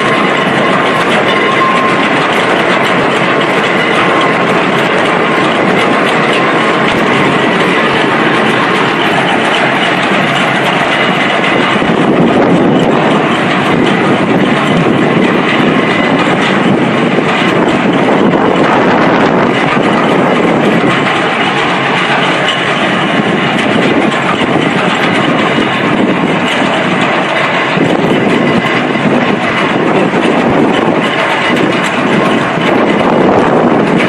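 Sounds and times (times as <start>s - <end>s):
drilling rig rattling: 0.0s - 34.0s.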